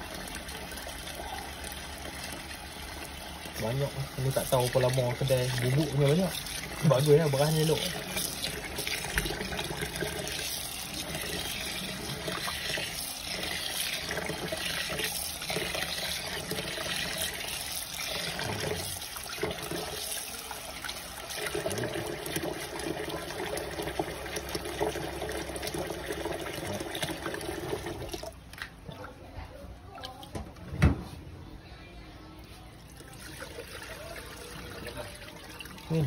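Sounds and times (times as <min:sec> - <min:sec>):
water running from a tap: 0:00.0 - 0:28.4, 0:33.0 - 0:36.0.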